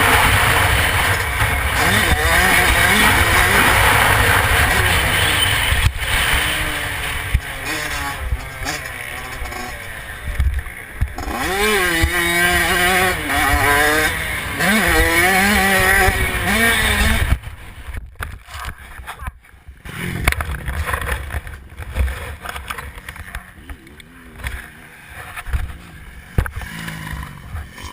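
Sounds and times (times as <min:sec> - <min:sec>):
motocross engines revving: 0:00.0 - 0:17.9, 0:19.8 - 0:27.9.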